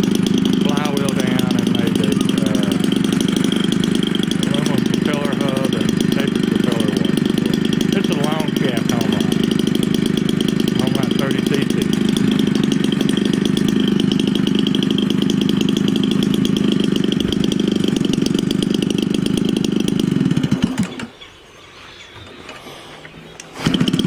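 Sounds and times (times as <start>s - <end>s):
two-stroke engine running: 0.0s - 21.2s, 23.4s - 24.0s.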